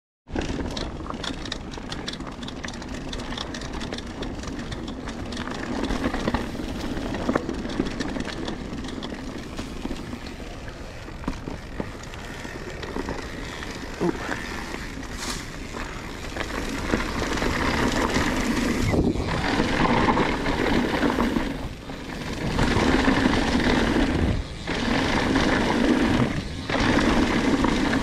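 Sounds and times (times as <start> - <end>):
bike clicks and rattles: 0.3 - 28.0
bike tyres rumbling on dirt: 0.3 - 28.0.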